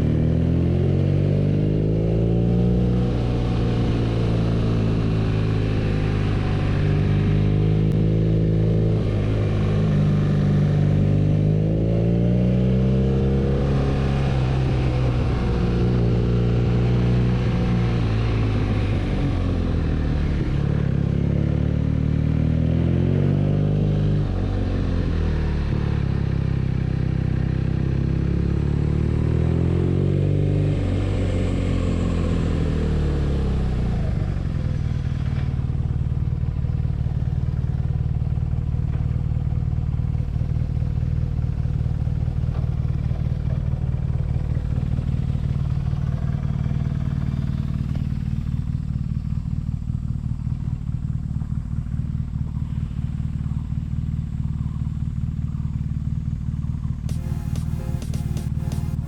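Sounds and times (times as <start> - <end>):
motorcycle engine revving and running: 0.0 - 59.0.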